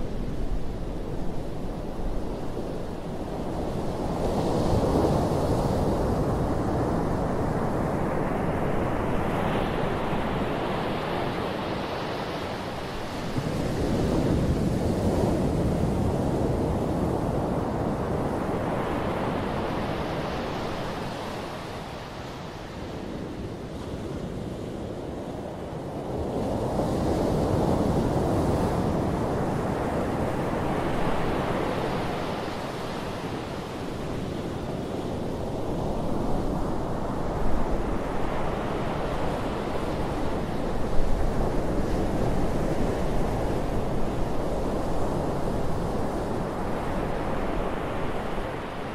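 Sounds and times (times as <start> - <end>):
surf washing up a beach: 0.0 - 48.9
wind rumble on microphone: 0.0 - 48.9.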